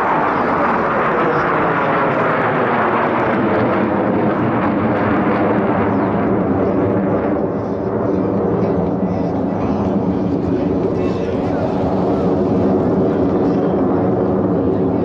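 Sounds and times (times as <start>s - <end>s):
loud jet engines flying past: 0.0s - 15.0s.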